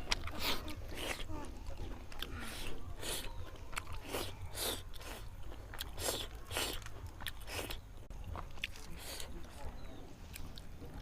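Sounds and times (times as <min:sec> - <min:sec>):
person chewing with mouth smacks: 0:00.0 - 0:11.0.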